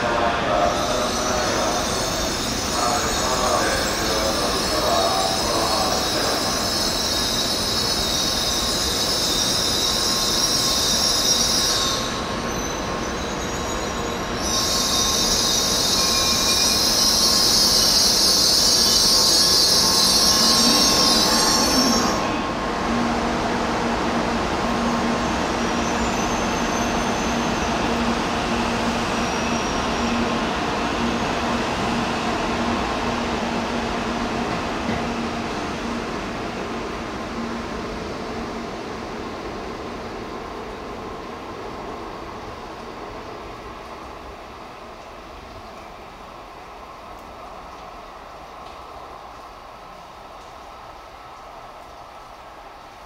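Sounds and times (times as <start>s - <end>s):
high-speed train rushing past: 0.0s - 53.0s.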